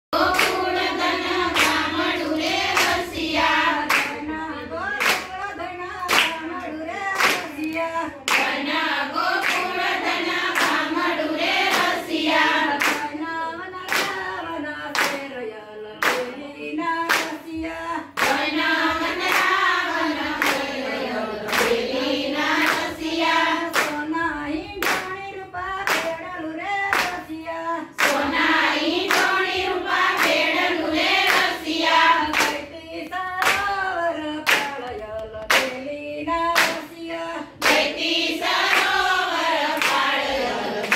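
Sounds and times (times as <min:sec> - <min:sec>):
hand claps: 0:00.2 - 0:04.2, 0:04.9 - 0:08.7, 0:09.3 - 0:13.3, 0:13.9 - 0:14.3, 0:14.9 - 0:15.3, 0:16.0 - 0:16.4, 0:17.0 - 0:17.6, 0:18.2 - 0:20.8, 0:21.5 - 0:27.4, 0:28.0 - 0:32.7, 0:33.4 - 0:40.9
women singing in unison: 0:00.2 - 0:40.9.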